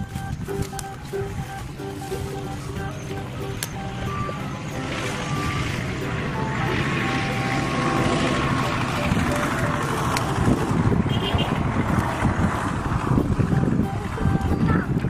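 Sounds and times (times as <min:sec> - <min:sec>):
background music: 0:00.0 - 0:15.0
steady rushing noise: 0:00.0 - 0:15.0.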